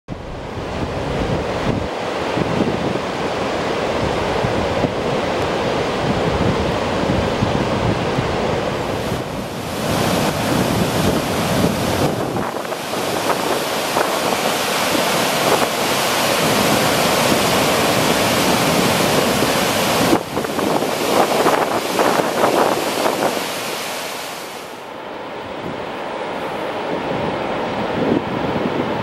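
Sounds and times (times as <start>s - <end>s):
water roaring over weir: 0.1s - 29.0s
wind rumbling on microphone: 0.1s - 29.0s.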